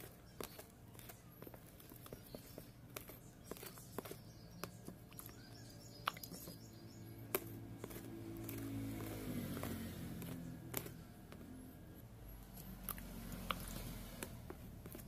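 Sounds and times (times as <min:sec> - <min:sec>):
spoon stirring thick slime: 0:00.0 - 0:15.0.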